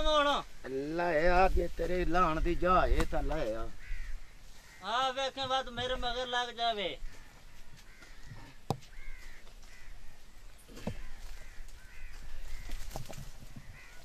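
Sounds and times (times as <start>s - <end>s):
birds calling: 2.3s - 14.0s.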